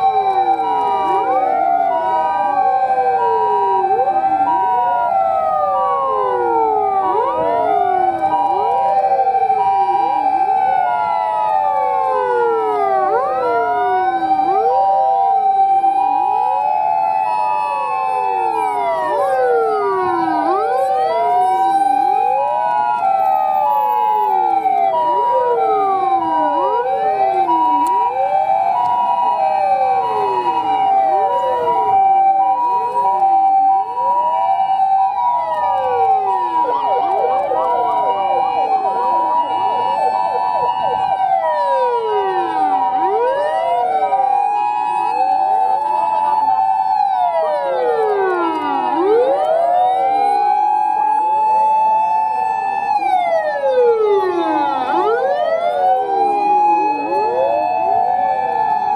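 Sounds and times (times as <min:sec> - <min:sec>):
overlapping wailing sirens: 0:00.0 - 0:58.9
two-tone hi-lo siren: 0:00.0 - 0:58.9.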